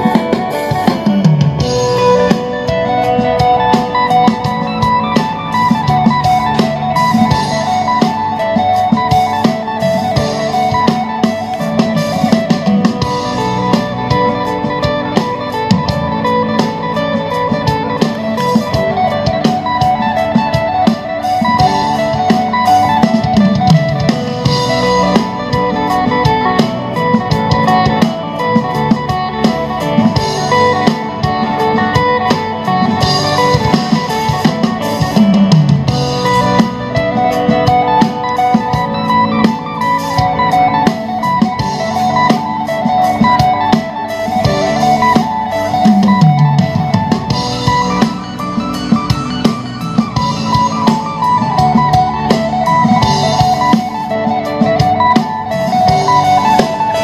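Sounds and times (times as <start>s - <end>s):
song with guitar and drums: 0.0s - 57.0s.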